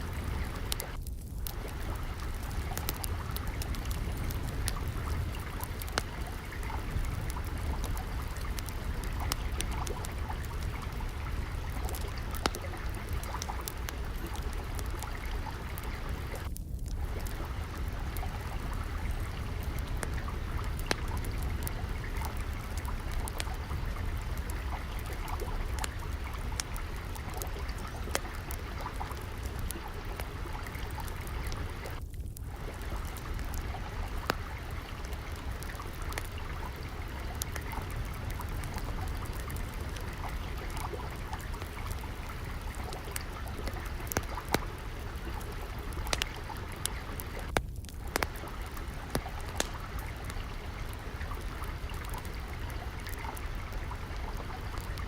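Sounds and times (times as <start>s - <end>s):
water trickling: 0.0s - 55.0s
wood fire crackling: 0.0s - 55.0s.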